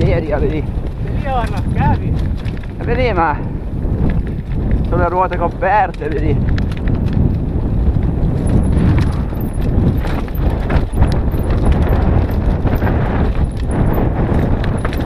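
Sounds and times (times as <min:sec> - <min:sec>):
bike clattering over bumps: 0:00.0 - 0:15.0
bike tyres on dirt and stones: 0:00.0 - 0:15.0
wind rumble on microphone: 0:00.0 - 0:15.0.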